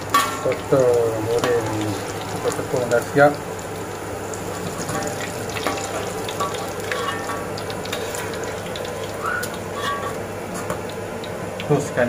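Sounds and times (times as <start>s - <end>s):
squid sizzling in hot oil: 0.0s - 12.0s.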